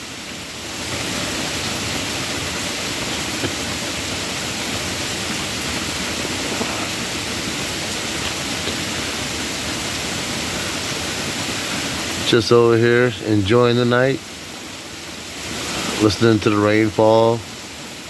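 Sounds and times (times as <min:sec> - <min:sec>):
rainwater pouring off house: 0:00.0 - 0:18.0
steady rainfall: 0:00.0 - 0:18.0.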